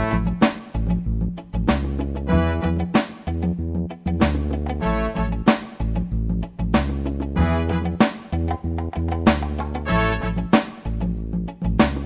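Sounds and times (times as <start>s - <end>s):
bass line: 0.0s - 12.0s.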